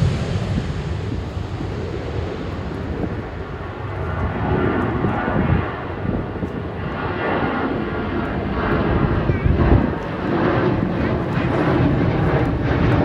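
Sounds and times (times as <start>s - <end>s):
airliner engine rumble: 0.0s - 13.0s.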